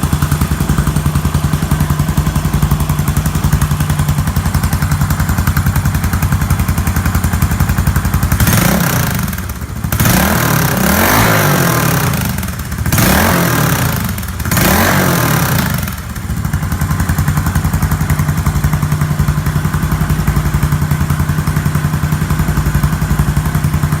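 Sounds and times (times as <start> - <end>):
motorcycle engine idling: 0.0 - 24.0
motorcycle engine revving: 0.0 - 24.0.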